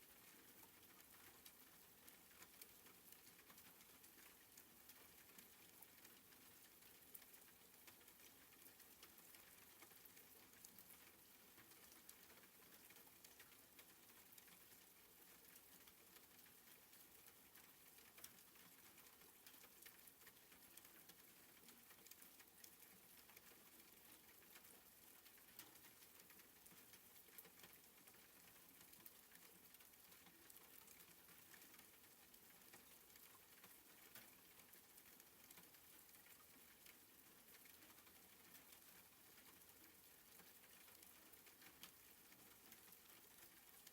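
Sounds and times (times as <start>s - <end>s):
soft rain patter: 0.0s - 43.9s.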